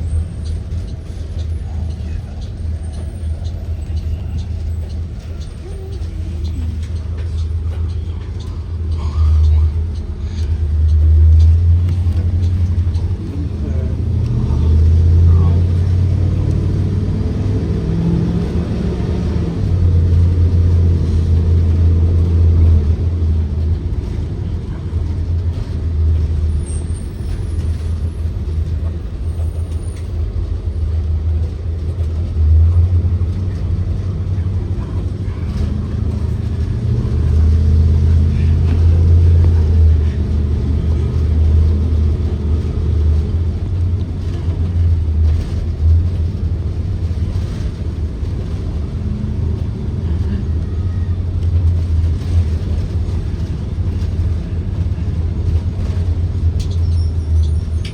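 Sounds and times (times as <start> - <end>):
bus engine drone: 0.0 - 57.9
road noise: 0.0 - 57.9.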